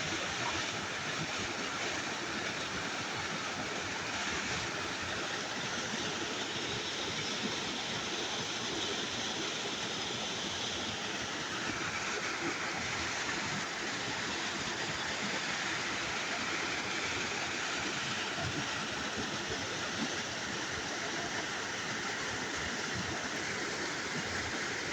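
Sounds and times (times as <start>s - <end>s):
river water rushing: 0.1s - 24.9s.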